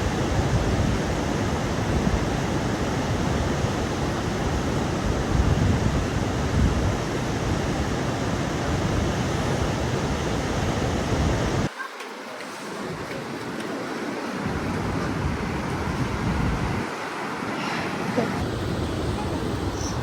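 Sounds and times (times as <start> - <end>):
ocean surf: 0.0 - 20.0
wind: 0.0 - 20.0.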